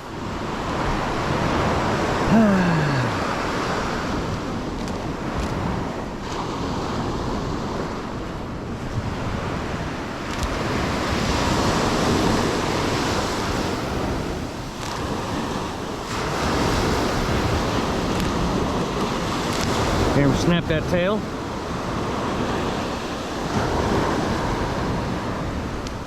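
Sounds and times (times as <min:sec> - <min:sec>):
ocean surf breaking: 0:00.0 - 0:26.0
wind buffeting microphone: 0:03.0 - 0:26.0.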